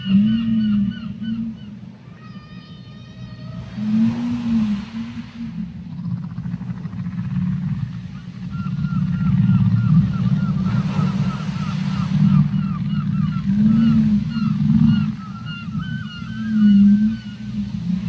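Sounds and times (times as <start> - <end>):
whale chirping whistles: 0.0 - 5.9, 8.0 - 18.0
low ocean water rumble: 0.0 - 18.0.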